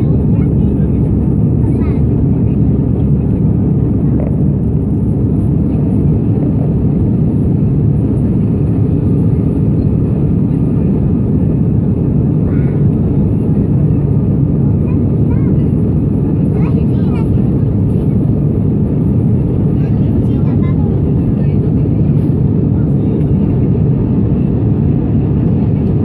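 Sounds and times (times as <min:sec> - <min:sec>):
jet engines and rushing air roar: 0:00.0 - 0:26.0.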